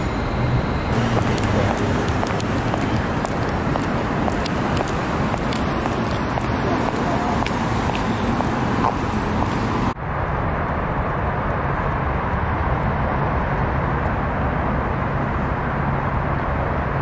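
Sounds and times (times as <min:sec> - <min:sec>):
passing cars rumble: 0:00.0 - 0:17.0.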